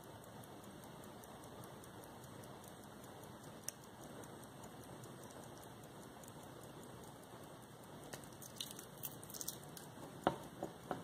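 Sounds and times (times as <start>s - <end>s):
pocket watch ticking: 0.0s - 11.0s
steady hiss: 0.0s - 11.0s.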